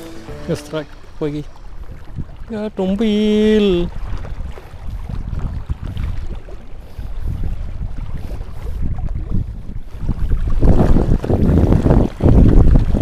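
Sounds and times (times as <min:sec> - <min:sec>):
waves lapping against rocks: 0:00.0 - 0:13.0
wind buffeting microphone: 0:00.0 - 0:13.0.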